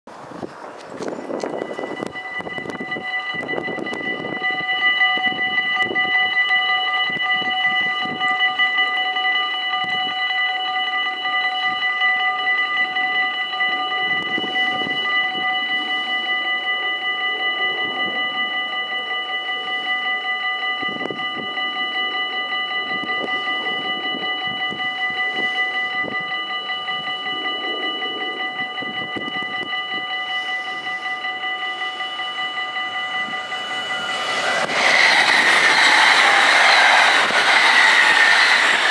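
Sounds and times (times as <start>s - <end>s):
level crossing warning bells: 0.2s - 38.9s.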